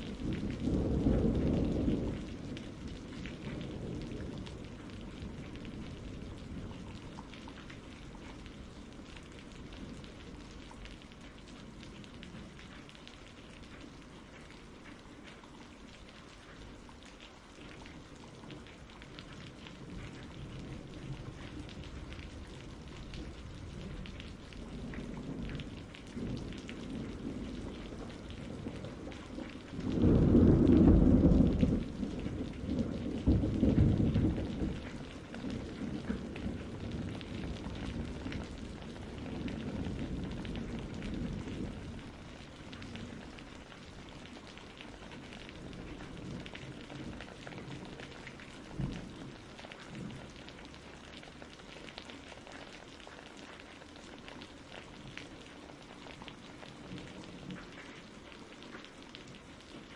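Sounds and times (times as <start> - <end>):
distant thunder rumbling: 0.0 - 15.0, 18.1 - 51.5
steady rain: 0.0 - 59.9.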